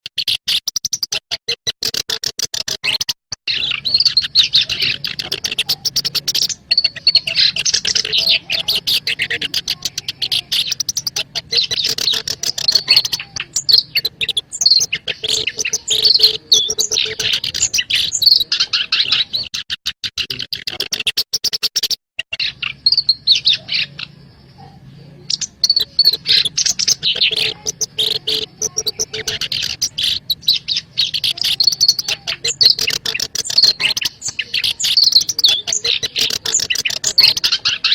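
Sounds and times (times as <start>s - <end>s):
reed warbler singing: 3.5s - 19.5s, 21.8s - 37.9s.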